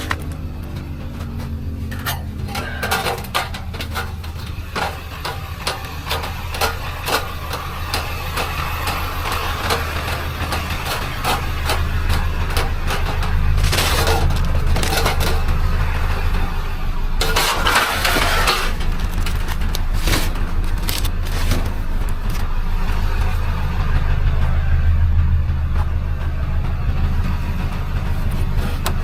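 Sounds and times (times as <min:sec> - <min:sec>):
irregular clanks and knocks: 0:00.0 - 0:29.0
vehicle engine running: 0:00.0 - 0:29.0.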